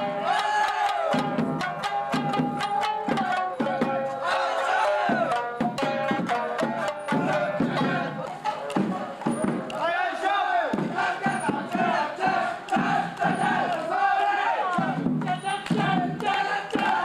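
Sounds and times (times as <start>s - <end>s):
drums in quick beat: 0.0s - 10.0s, 10.7s - 17.0s.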